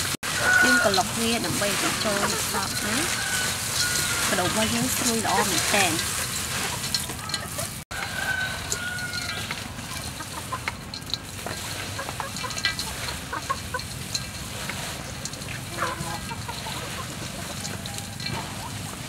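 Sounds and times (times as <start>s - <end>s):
chickens clucking: 0.0s - 19.0s
grasshoppers rustling in steel bowl: 0.0s - 19.0s.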